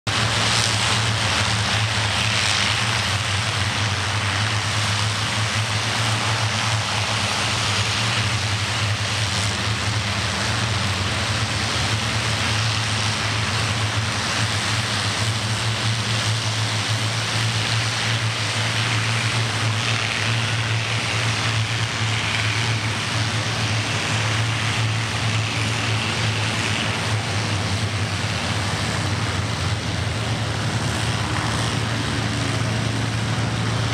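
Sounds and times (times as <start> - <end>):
propeller aircraft engines droning: 0.1 - 33.9.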